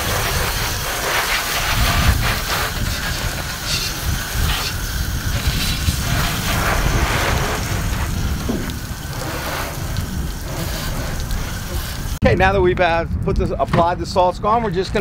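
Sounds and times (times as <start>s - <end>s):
hiss of hose spray: 0.0s - 12.2s
steady low rumble: 0.0s - 15.0s.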